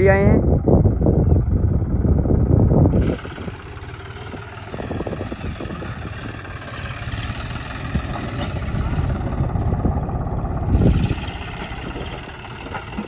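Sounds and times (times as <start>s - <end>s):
diesel tractor engine running: 0.3s - 13.0s.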